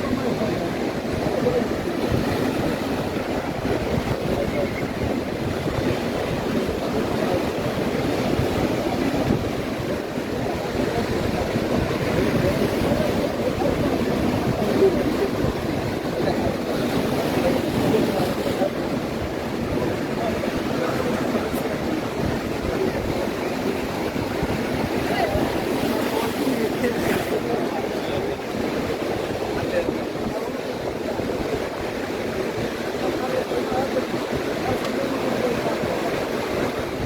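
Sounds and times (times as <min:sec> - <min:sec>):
surf breaking on beach: 0:00.0 - 0:37.0
wind on microphone: 0:00.0 - 0:37.0.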